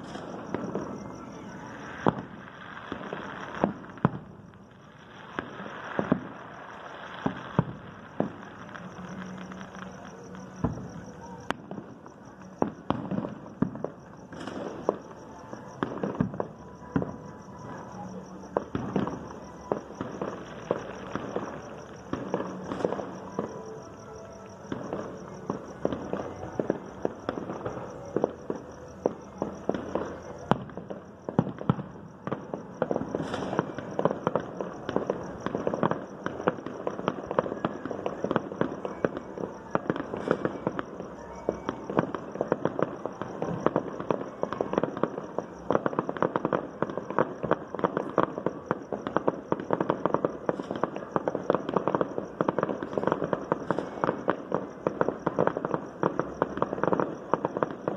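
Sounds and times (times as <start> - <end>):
firecrackers crackling: 0.0 - 57.9
firework bangs: 0.0 - 57.9.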